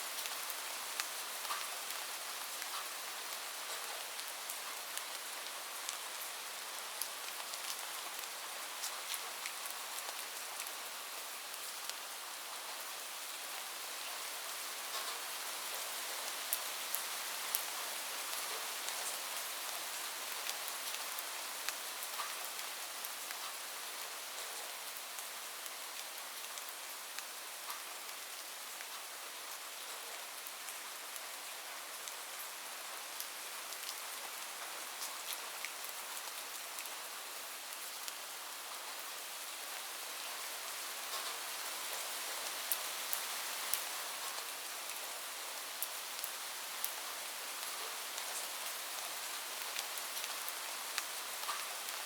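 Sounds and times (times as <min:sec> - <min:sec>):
heavy rain on a roof: 0:00.0 - 0:52.0.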